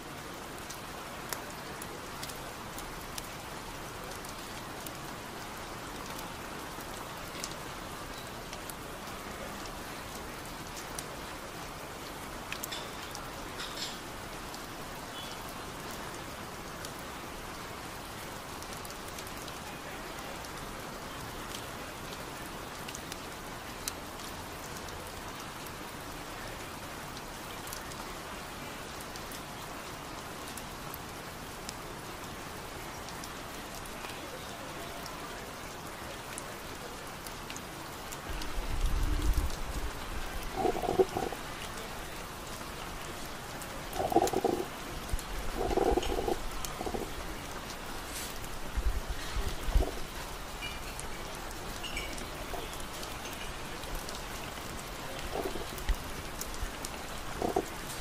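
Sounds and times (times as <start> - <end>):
raindrops ticking: 0.0 - 58.0
steady rain: 0.0 - 58.0.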